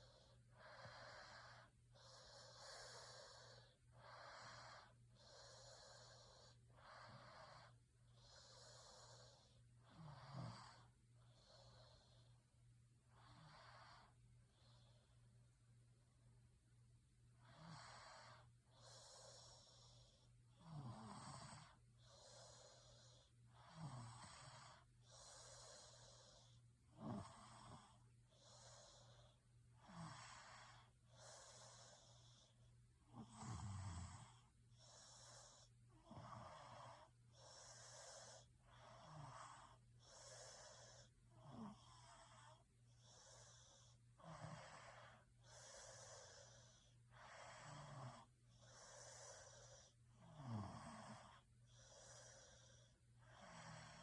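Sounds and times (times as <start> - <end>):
faint breathing and snoring: 0.0 - 54.0.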